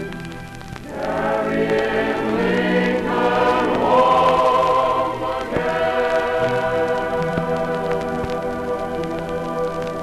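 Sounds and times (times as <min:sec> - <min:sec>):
vinyl record surface clicks: 0:00.0 - 0:10.0
choir singing held chords: 0:00.8 - 0:10.0.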